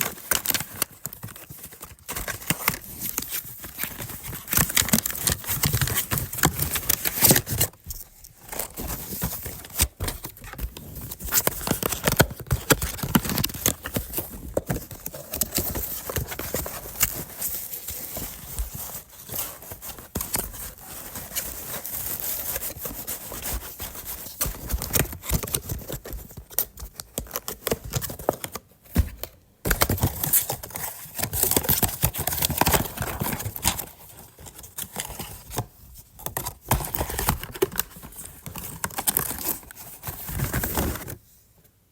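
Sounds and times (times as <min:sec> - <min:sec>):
packaging rustling: 0:00.0 - 0:41.2
cardboard box being opened: 0:00.0 - 0:41.3.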